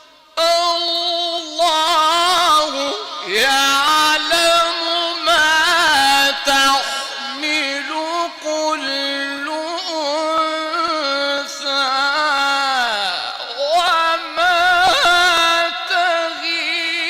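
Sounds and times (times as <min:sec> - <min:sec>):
melodic chanted recitation: 0:00.0 - 0:17.0.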